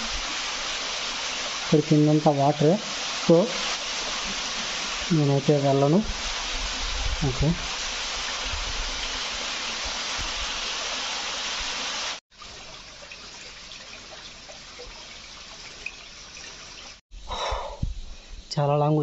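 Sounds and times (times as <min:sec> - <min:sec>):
running water hissing: 0:00.0 - 0:19.0.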